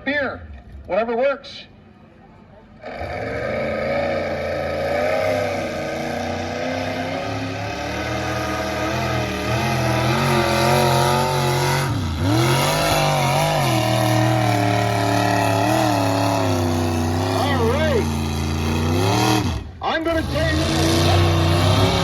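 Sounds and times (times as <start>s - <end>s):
truck engine under load: 2.8s - 22.0s.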